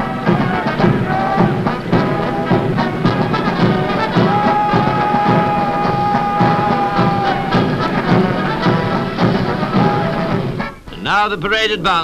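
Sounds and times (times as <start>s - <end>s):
brass band playing a march: 0.0s - 10.9s
drums beating: 0.0s - 10.9s.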